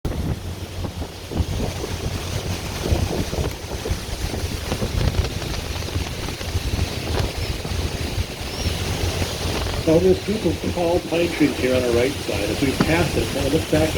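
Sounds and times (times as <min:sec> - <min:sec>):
wind buffeting microphone: 0:00.0 - 0:13.9
steady rushing noise: 0:00.1 - 0:13.9.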